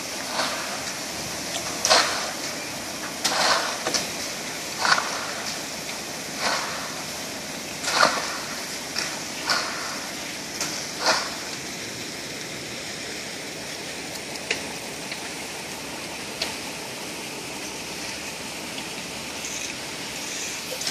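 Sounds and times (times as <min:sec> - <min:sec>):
scraping wet concrete: 0:00.0 - 0:15.4, 0:16.2 - 0:20.9
steady rushing noise: 0:00.0 - 0:20.9.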